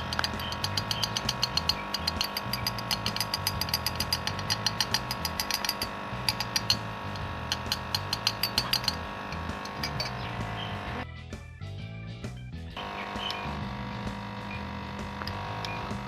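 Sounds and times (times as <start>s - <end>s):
background music with clicking beat: 0.0s - 16.0s.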